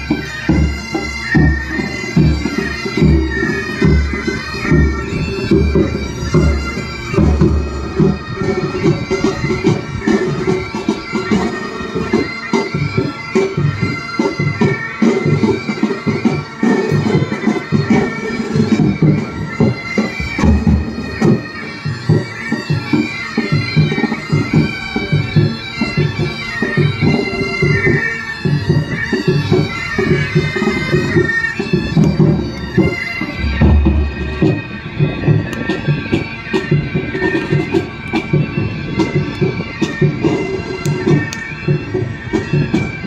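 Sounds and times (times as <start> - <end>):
bagpipes playing a melody: 0.0 - 43.0
drums beating: 0.0 - 43.0.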